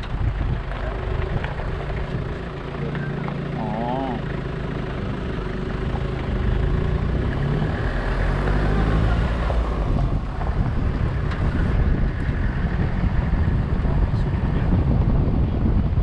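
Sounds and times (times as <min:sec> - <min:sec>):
vehicle engine running: 0:00.0 - 0:16.0
wind rumbling on microphone: 0:00.0 - 0:16.0.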